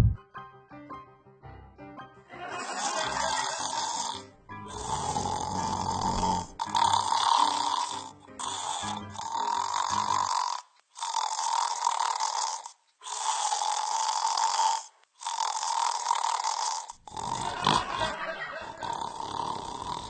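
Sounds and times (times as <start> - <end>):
person snoring: 2.5 - 20.0.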